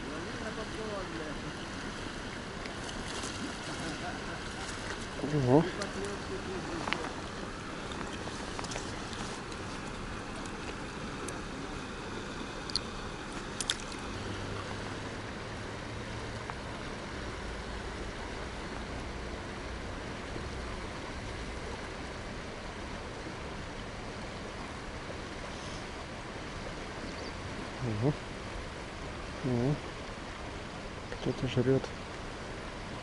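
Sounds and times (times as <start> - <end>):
river water rushing over rocks: 0.0 - 33.0.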